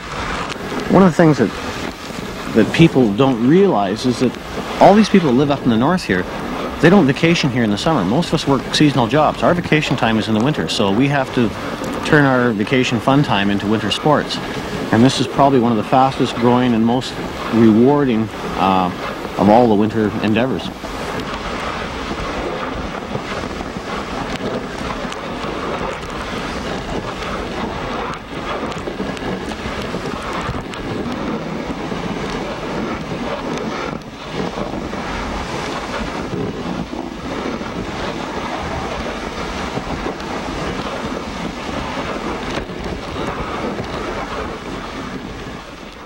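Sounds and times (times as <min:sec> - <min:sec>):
dog sled rushing on snow: 0:00.0 - 0:46.0
wind buffeting microphone: 0:00.0 - 0:46.0.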